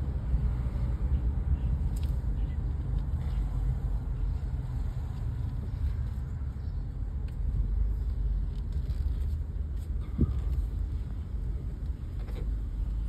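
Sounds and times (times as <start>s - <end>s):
car engine and road noise inside cabin: 0.0s - 13.0s.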